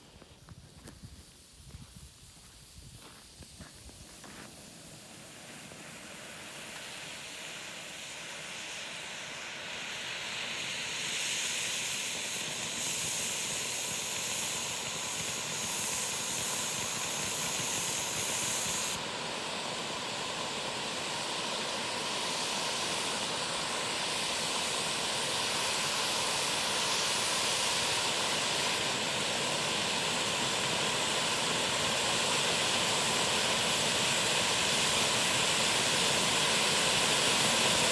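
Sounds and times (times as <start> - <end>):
firework fountains hissing: 0.0 - 37.9.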